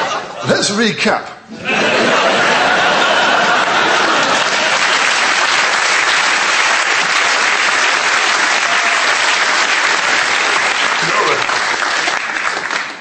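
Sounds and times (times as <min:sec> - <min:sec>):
audience applauding: 0:02.1 - 0:13.0.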